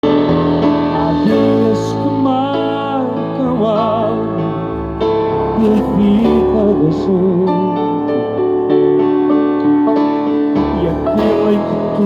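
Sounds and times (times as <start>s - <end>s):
guitar accompaniment: 0.0s - 12.0s
man singing with vibrato: 0.6s - 8.6s, 9.7s - 12.0s.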